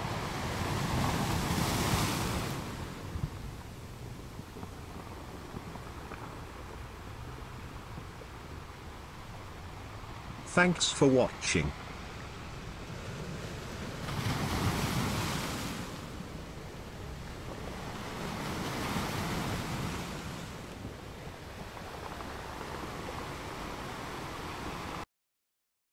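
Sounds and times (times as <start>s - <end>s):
wind rumbling on microphone: 0.0s - 10.5s, 11.8s - 25.0s
small waves washing onto sand: 0.0s - 25.0s.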